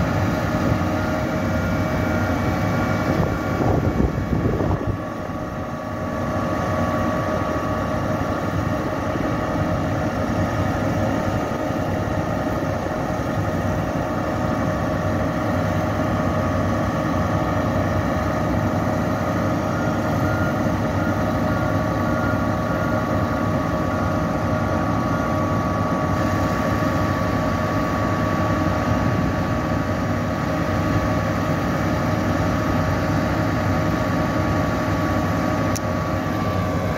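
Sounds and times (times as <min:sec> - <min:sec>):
hydraulic whine: 0:00.0 - 0:36.9
truck engine running: 0:00.0 - 0:36.9.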